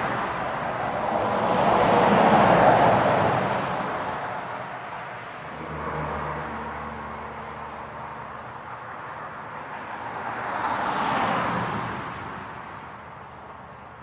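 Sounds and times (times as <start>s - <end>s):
heavy truck passing: 0.0s - 14.0s.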